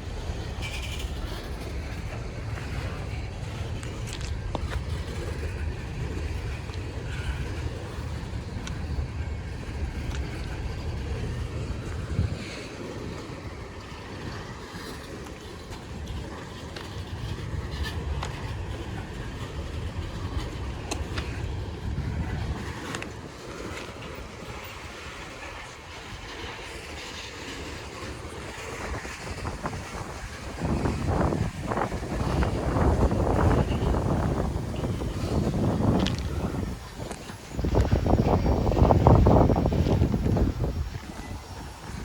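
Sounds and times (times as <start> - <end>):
train cars rumbling: 0.0 - 42.0.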